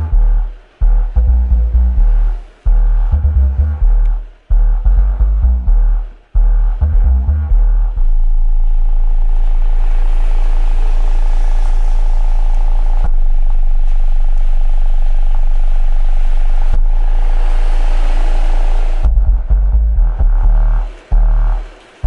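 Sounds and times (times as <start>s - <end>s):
bass-heavy music beats: 0.0s - 22.0s
deep bass drone from subwoofer: 0.0s - 22.0s.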